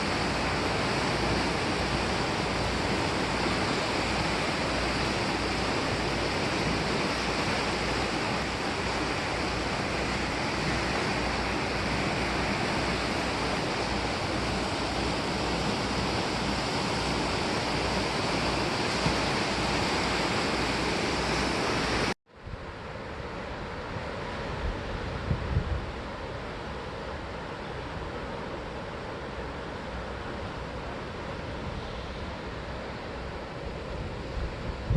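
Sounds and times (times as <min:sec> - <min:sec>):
surf breaking on shore: 0:00.0 - 0:34.9.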